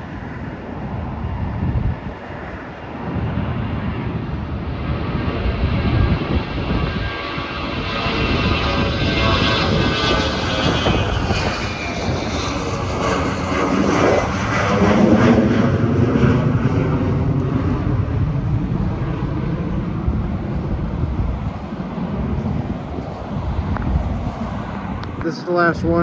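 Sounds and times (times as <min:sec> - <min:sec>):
jet airliner roaring past: 0:00.0 - 0:26.0.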